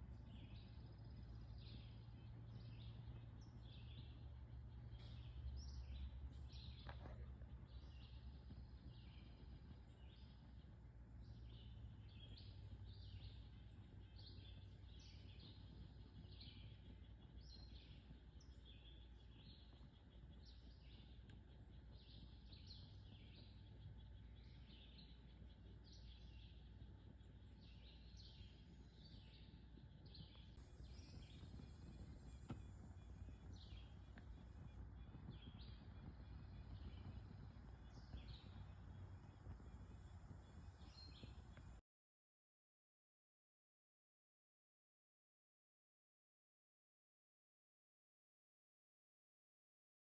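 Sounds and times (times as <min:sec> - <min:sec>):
faint bird chirps: 0:00.0 - 0:41.8
low background rumble: 0:00.0 - 0:41.8.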